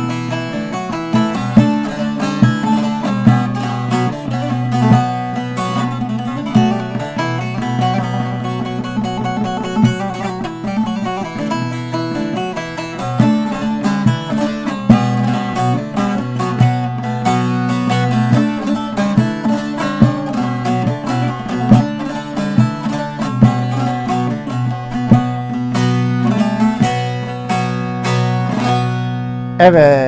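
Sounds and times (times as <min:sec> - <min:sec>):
plucked lute playing: 0:00.0 - 0:29.6.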